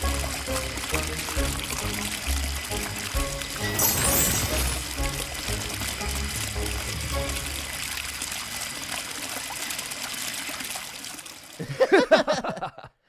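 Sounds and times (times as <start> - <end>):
water trickling from tube: 0.0 - 11.6.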